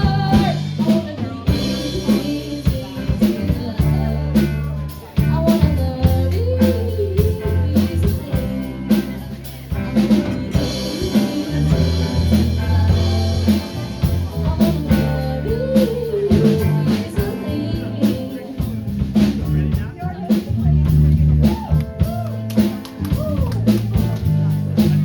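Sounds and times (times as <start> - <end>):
bass line: 0.0 - 25.0
drum kit beat: 0.0 - 25.0
guitar: 0.0 - 25.0.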